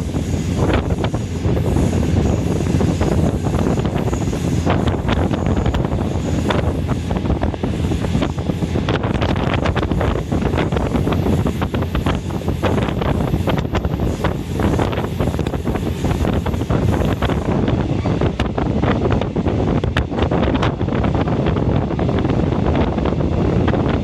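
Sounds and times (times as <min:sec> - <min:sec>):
train rumble: 0:00.0 - 0:24.0
wind rushing past: 0:00.0 - 0:24.0.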